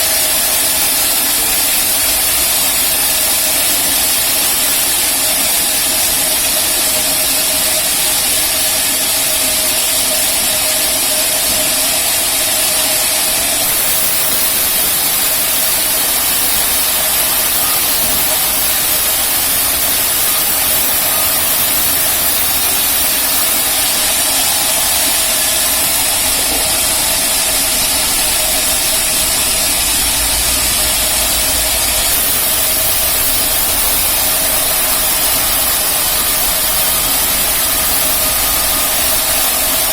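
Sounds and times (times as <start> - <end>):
band sawmill hum and hiss: 0.0 - 39.9.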